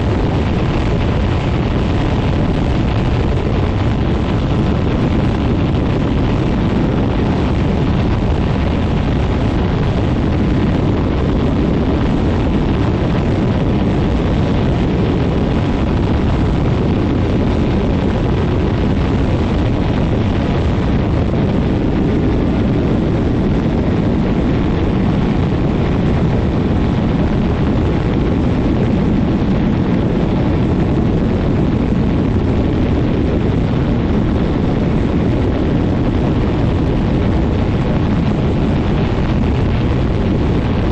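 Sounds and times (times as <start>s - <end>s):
ultralight engine and propeller: 0.0s - 40.9s.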